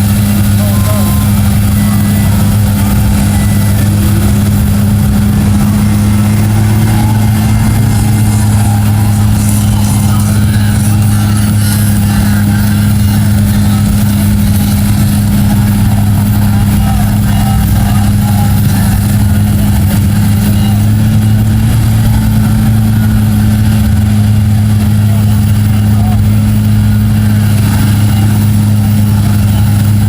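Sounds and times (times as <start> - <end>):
truck engine deep drone: 0.0 - 30.0.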